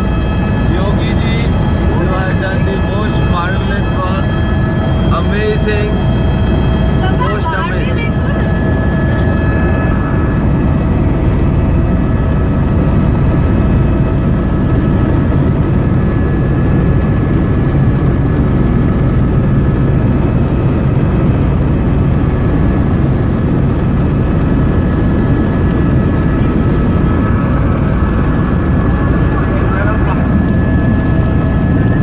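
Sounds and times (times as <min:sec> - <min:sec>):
helicopter rotor and engine rumble: 0:00.0 - 0:32.0.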